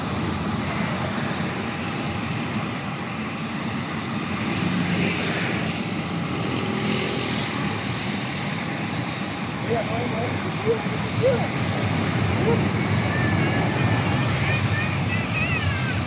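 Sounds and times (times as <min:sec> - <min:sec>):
airplane engines running: 0:00.0 - 0:16.0.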